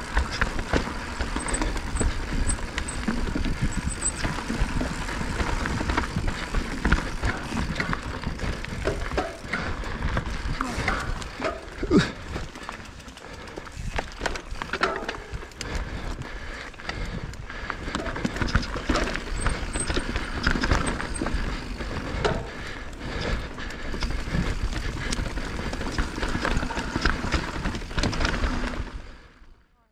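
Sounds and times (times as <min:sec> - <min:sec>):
bike chain and frame rattling: 0:00.0 - 0:29.4
bike tyres scrabbling over dirt: 0:00.0 - 0:29.4.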